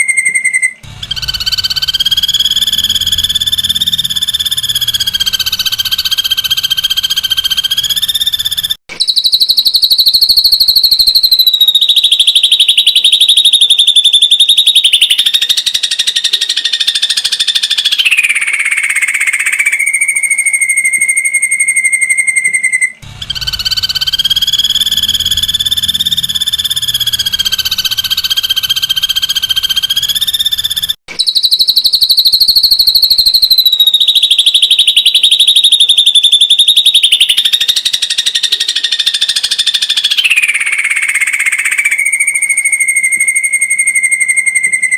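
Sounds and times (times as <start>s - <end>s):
bird rapid trill: 0.0s - 44.9s.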